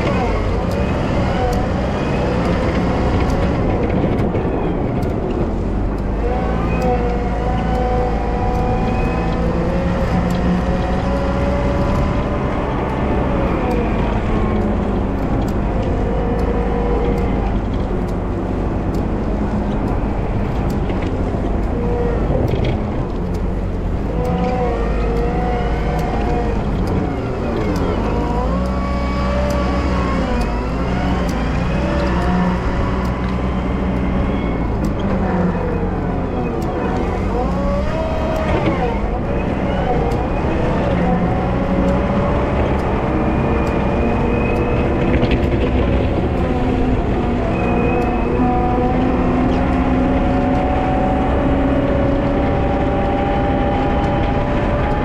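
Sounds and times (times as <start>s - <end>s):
wheel loader diesel engine revving: 0.0s - 55.0s.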